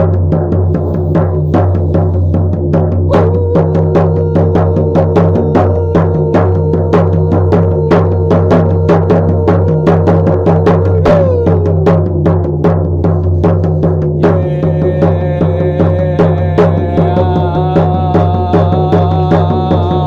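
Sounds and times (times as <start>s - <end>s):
hand drum beating: 0.0s - 20.0s.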